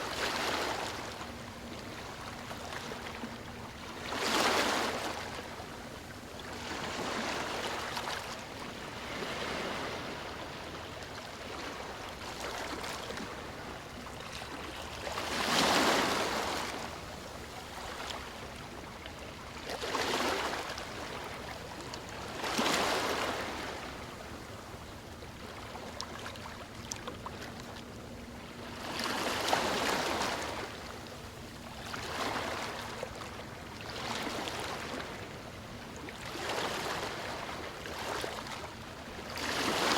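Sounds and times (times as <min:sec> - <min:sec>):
ocean waves lapping on shore: 0:00.0 - 0:39.9.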